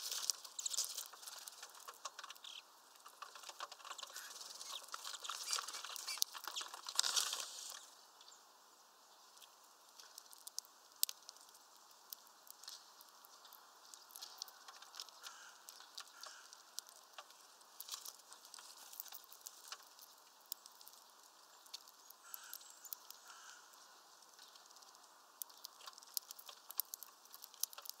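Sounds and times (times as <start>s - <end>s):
birds cracking seeds at feeder: 0.0s - 8.3s, 9.2s - 28.0s.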